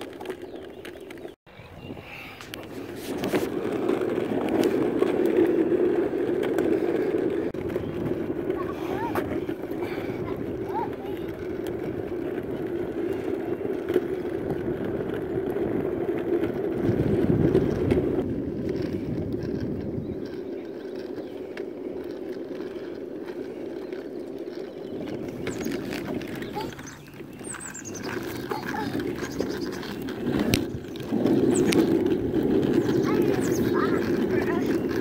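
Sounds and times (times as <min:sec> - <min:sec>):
scooter wheels rolling on asphalt: 0:00.0 - 0:35.0.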